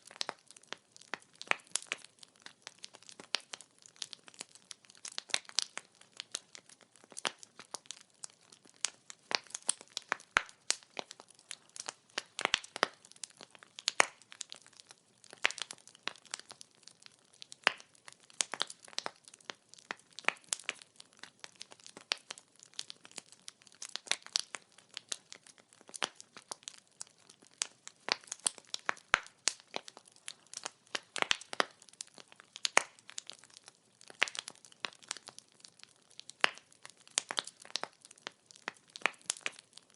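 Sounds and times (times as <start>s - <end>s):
logs crackling in fire: 0.0s - 39.9s.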